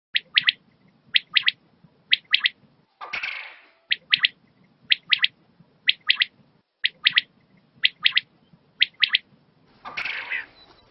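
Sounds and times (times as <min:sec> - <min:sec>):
quail calling: 0:00.2 - 0:10.9.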